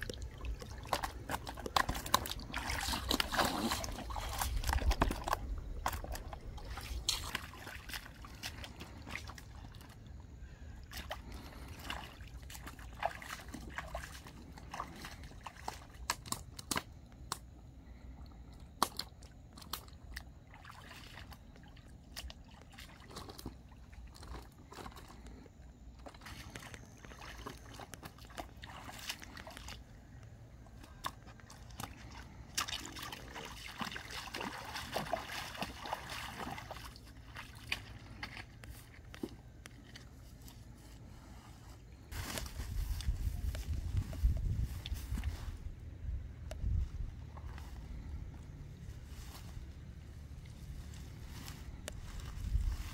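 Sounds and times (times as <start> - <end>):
splashing in shallow water: 0.0 - 52.9.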